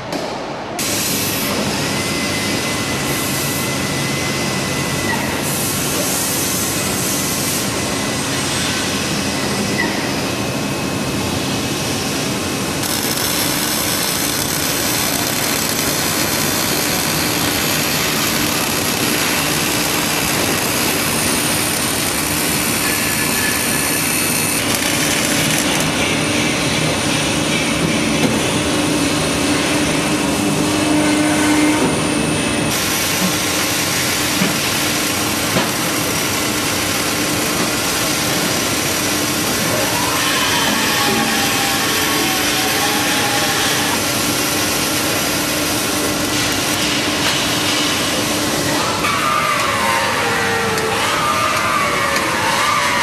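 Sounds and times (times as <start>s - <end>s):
factory machinery din: 0.0s - 53.0s
machinery whining tones: 0.8s - 53.0s.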